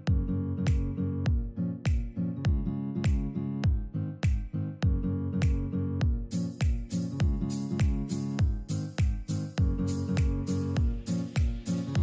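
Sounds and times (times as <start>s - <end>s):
music with steady beat: 0.0s - 12.0s
deep kick drum: 0.1s - 12.0s.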